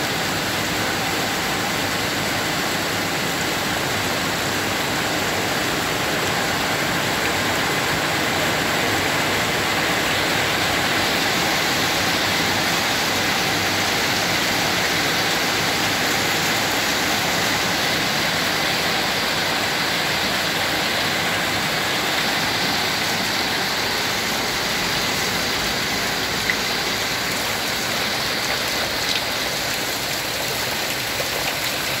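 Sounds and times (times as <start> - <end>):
heavy rain on leaves and pond: 0.0 - 32.0.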